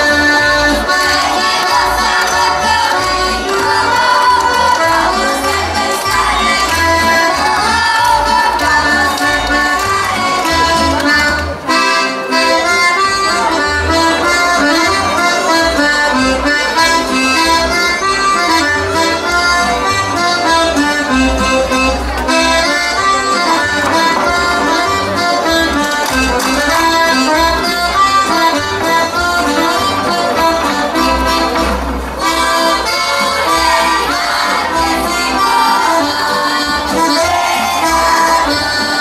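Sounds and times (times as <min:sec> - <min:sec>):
lively folk dance music: 0:00.0 - 0:39.0.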